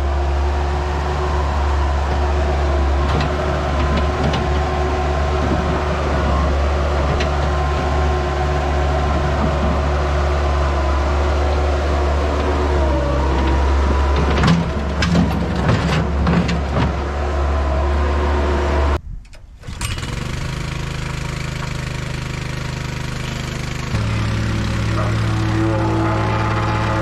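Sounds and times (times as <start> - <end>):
diesel engine running: 0.0 - 19.0, 19.7 - 27.0.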